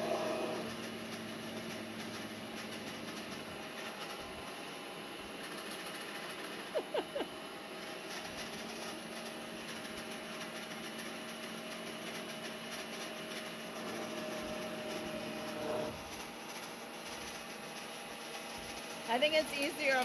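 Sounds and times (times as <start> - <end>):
vacuum cleaner whirring: 0.0 - 20.0.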